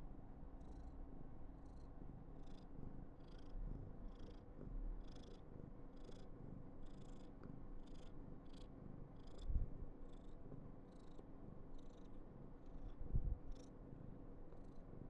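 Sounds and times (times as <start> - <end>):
cat purring: 1.6 - 15.0.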